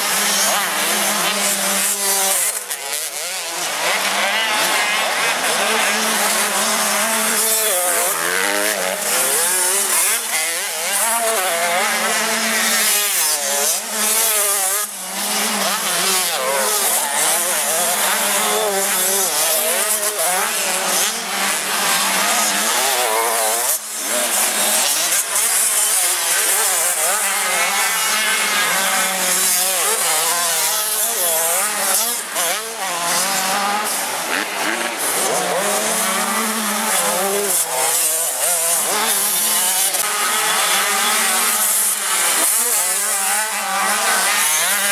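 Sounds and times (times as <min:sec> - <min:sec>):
motocross bikes revving: 0:00.0 - 0:44.9.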